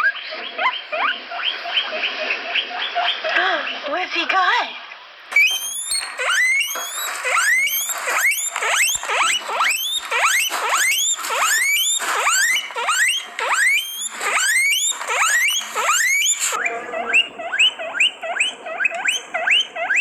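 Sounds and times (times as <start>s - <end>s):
guinea pig squealing: 0.0s - 3.6s, 5.3s - 20.0s.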